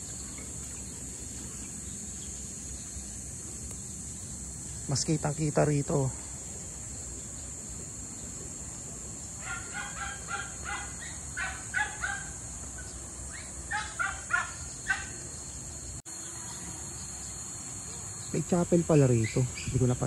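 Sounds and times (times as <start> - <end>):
high insect hiss: 0.0 - 20.0.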